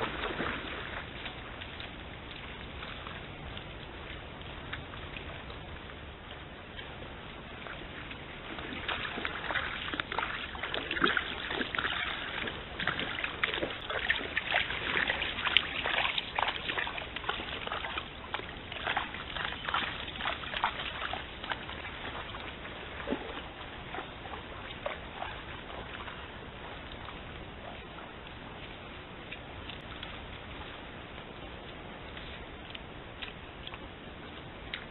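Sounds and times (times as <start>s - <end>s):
hooves splashing in shallow water: 0.0s - 34.9s.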